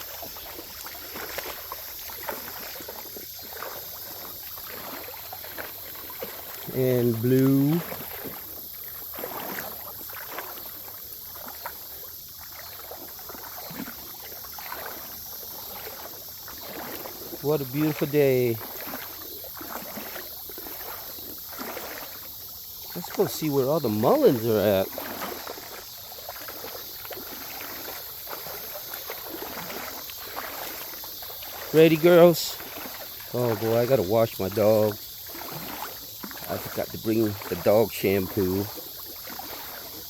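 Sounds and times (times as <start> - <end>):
creek water trickling: 0.0 - 40.0
small water splashes: 0.0 - 40.0.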